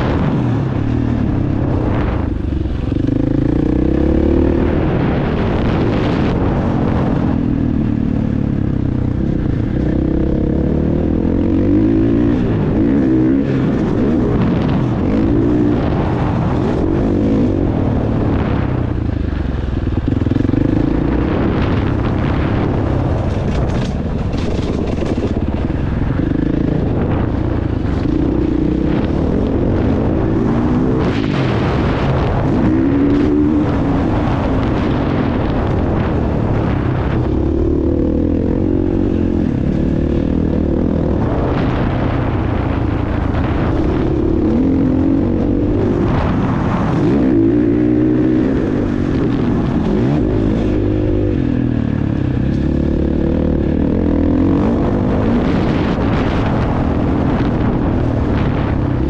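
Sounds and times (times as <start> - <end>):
motocross bike engine revving: 0.0 - 19.0, 19.9 - 59.0.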